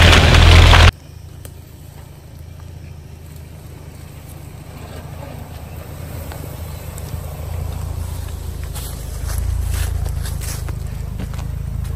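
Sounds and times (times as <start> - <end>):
suv engine running low: 0.0 - 11.9.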